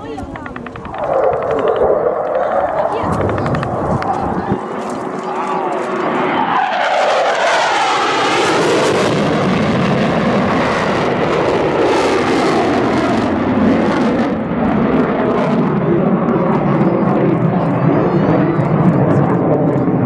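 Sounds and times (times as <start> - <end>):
loud jet rumble: 0.0 - 20.0
jet passing fast: 0.2 - 20.0.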